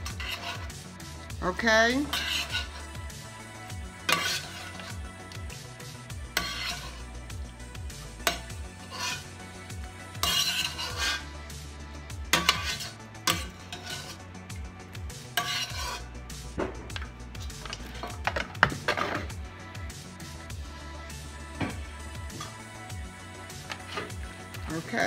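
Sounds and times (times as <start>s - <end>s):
spoon scraping and stirring pan: 0.0s - 19.9s, 21.5s - 25.0s.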